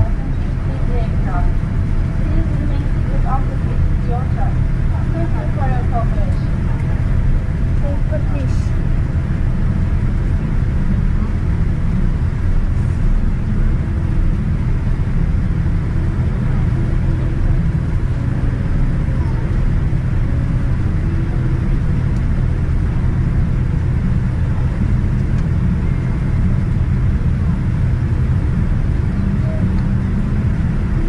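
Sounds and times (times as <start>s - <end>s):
airliner cabin low rumble: 0.0s - 31.0s.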